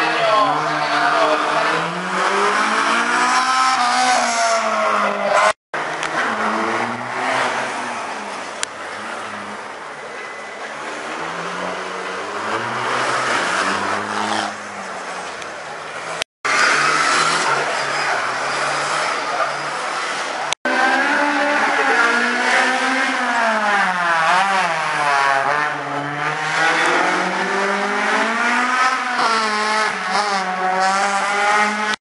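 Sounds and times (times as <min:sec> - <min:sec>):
rally car engines revving: 0:00.0 - 0:32.0.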